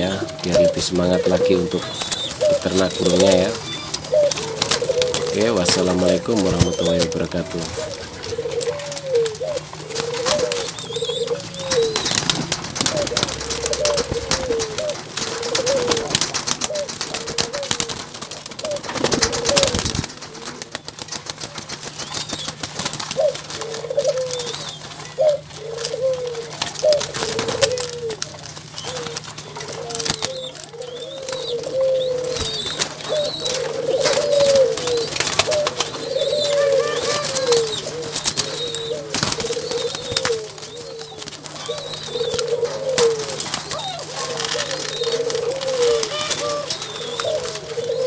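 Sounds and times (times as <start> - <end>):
doves cooing: 0.0 - 48.0
wings flapping: 0.0 - 48.0.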